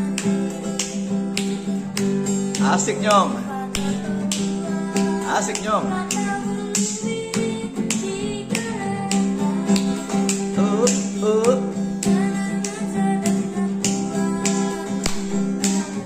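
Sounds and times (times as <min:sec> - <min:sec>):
acoustic guitar strumming: 0:00.0 - 0:16.0
picked guitar melody: 0:00.0 - 0:16.0.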